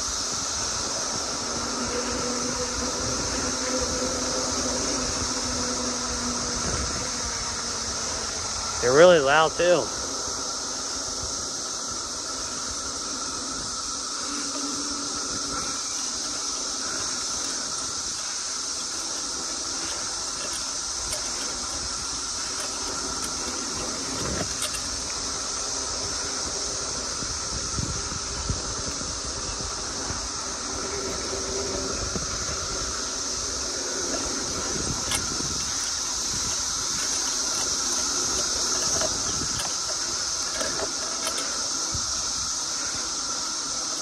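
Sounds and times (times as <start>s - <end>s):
cicadas droning: 0.0s - 44.0s
vehicle rumbling slowly: 0.0s - 44.0s.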